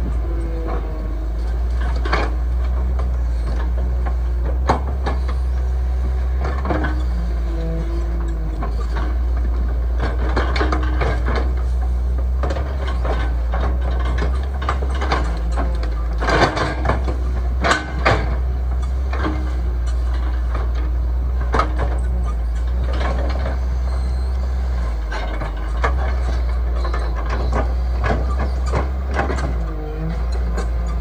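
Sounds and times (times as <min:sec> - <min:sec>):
heavy machine engine running: 0:00.0 - 0:31.0
metallic clanks and knocks: 0:00.2 - 0:05.4, 0:06.4 - 0:23.6, 0:24.8 - 0:31.0.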